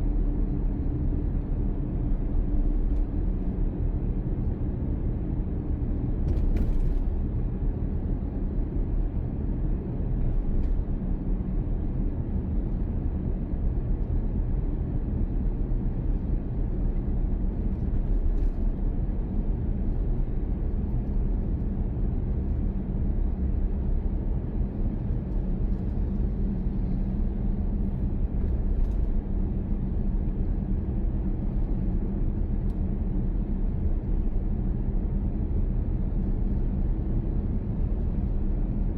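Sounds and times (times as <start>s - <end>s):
car engine and road noise: 0.0s - 38.9s
faint steady hum: 0.0s - 38.9s.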